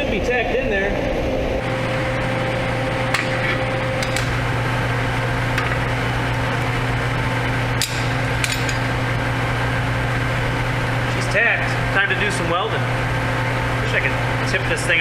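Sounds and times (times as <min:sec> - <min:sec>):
low machine hum: 0:01.0 - 0:15.0.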